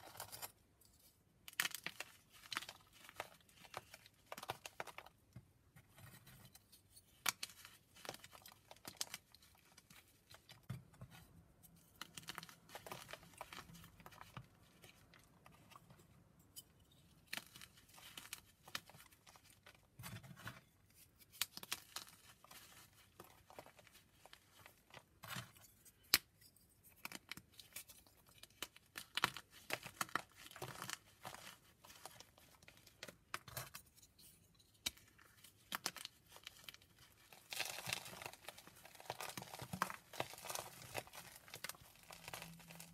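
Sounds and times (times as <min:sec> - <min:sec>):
chalk crumbling and crunching: 0:00.0 - 0:42.9.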